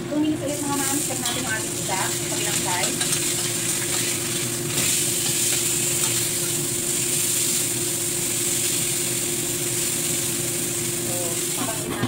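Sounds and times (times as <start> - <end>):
fish sizzling in oil: 0.5 - 12.0.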